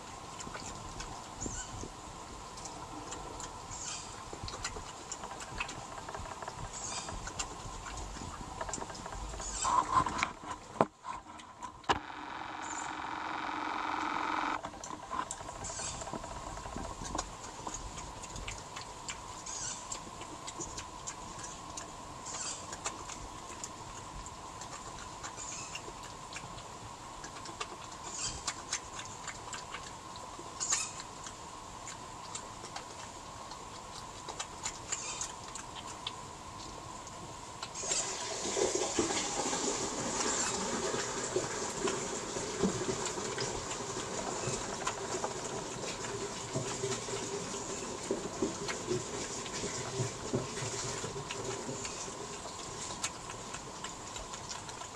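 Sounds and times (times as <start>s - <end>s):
faint steady hum: 0.0s - 54.9s
badgers crunching peanuts: 2.5s - 54.9s.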